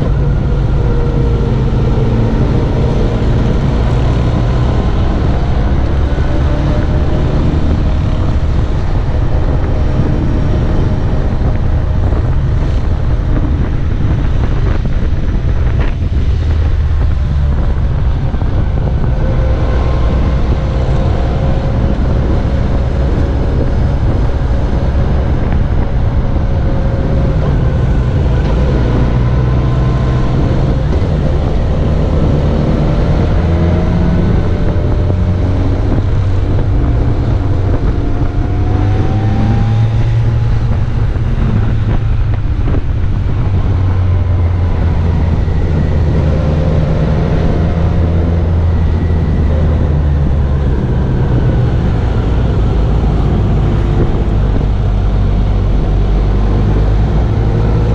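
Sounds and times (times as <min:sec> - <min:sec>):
motorcycle engine running: 0:00.0 - 0:57.9
wind on microphone: 0:00.0 - 0:57.9.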